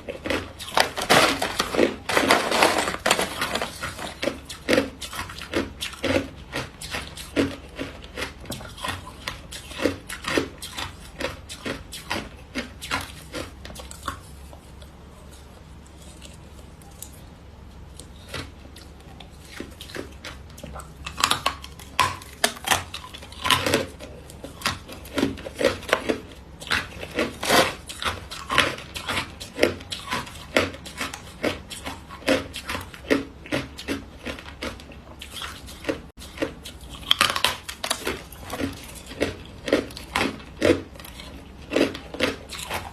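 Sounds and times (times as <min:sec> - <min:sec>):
ice being chewed: 0:00.0 - 0:42.9.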